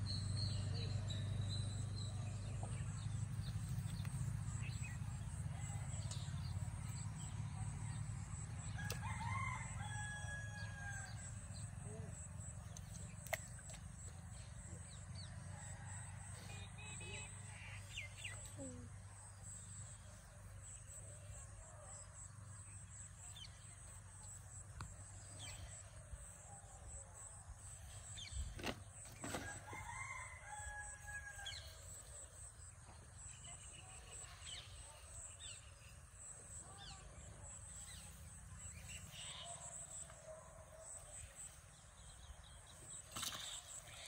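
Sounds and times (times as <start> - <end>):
low outdoor background noise: 0.0 - 44.0.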